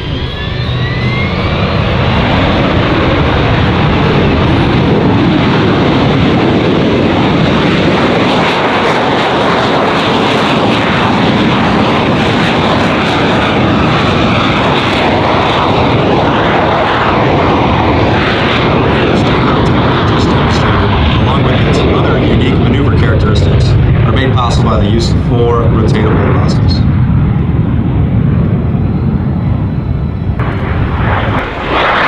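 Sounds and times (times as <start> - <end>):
loud jet engine noise: 0.0 - 32.0.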